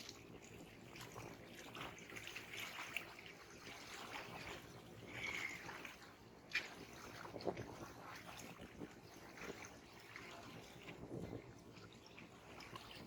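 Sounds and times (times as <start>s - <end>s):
small waves lapping: 0.0s - 13.0s
water trickling: 0.0s - 13.0s.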